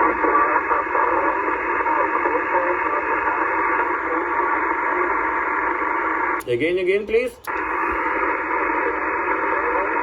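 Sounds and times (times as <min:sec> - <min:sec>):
faint radio voices: 0:00.0 - 0:10.0
radio band noise hiss: 0:00.0 - 0:10.0.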